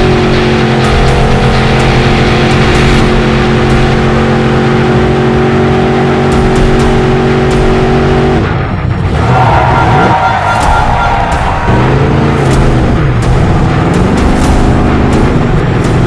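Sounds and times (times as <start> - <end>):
truck engine revving loud: 0.0 - 16.0.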